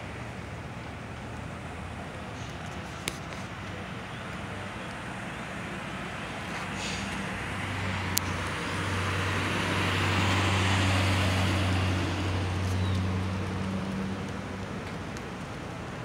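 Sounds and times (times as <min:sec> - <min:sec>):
bus driving past: 0:00.0 - 0:16.0.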